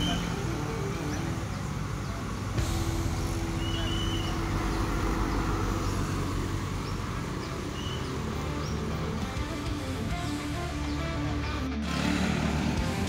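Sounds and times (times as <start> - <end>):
large vehicle engine passing: 0.0 - 13.0
road traffic: 0.0 - 13.0.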